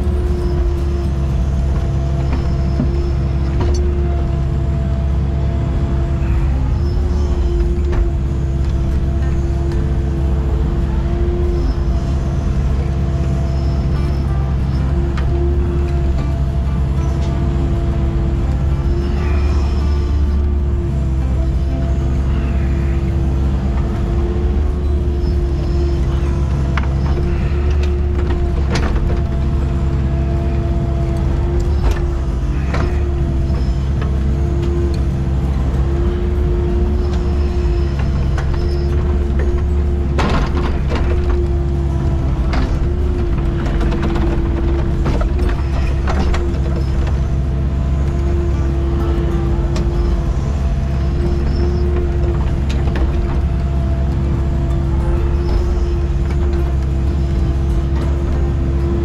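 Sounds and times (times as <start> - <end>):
constant hum: 0.0 - 59.0
excavator diesel engine: 0.0 - 59.0
hydraulic whine: 0.0 - 59.0.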